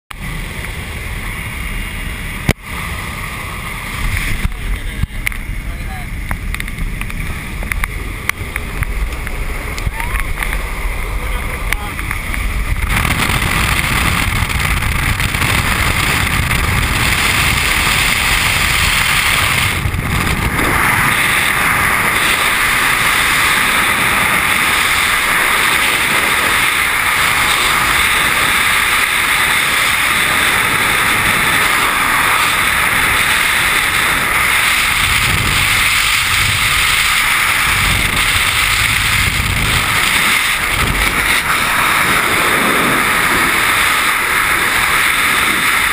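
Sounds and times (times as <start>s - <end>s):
wind rushing over microphone: 0.1s - 45.9s.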